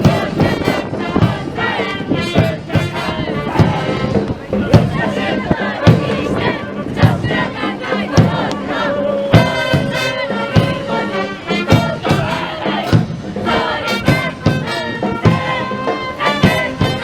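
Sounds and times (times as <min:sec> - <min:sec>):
bass drum beat: 0:00.0 - 0:15.7
brass band playing: 0:00.0 - 0:17.0
people shouting along: 0:01.5 - 0:17.0.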